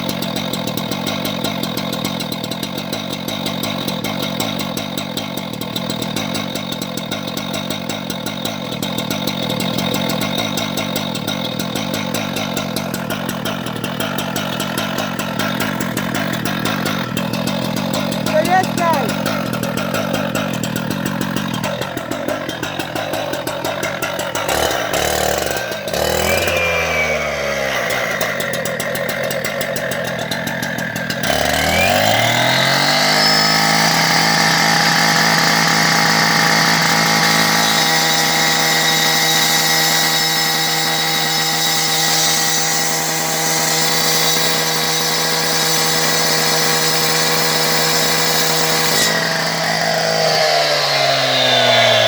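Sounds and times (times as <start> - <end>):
cut-off saw whining: 0.0 - 52.0.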